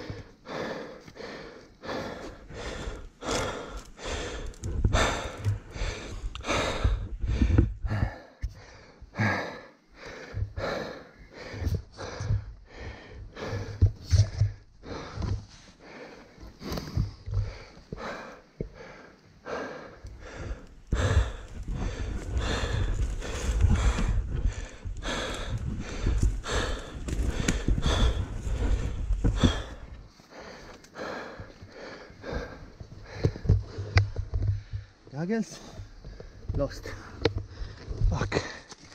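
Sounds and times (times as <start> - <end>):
man breathing hard: 0.0 - 38.9.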